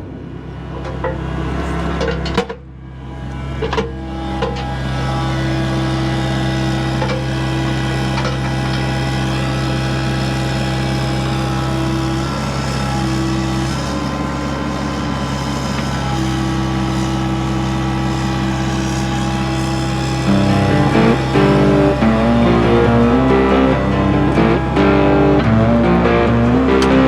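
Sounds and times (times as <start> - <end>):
heavy equipment engine running: 0.0 - 27.0.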